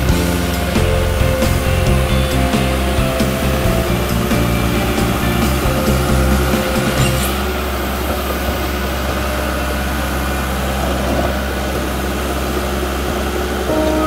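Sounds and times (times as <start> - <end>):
bulldozer diesel engine under load: 0.0 - 13.7.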